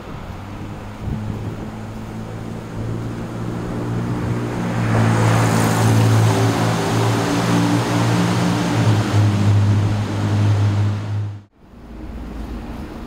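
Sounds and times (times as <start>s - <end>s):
oncoming vehicle passing: 0.0s - 12.7s
car driving through tunnel: 0.0s - 13.0s.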